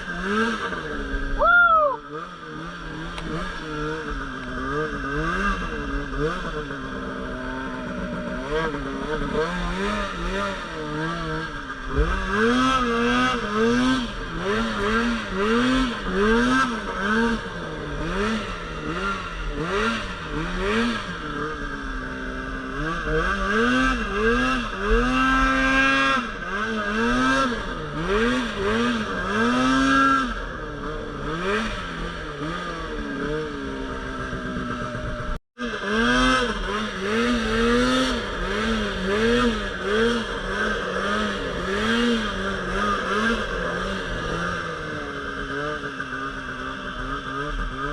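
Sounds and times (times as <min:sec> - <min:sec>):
snowmobile engine revving: 0:00.0 - 0:47.9.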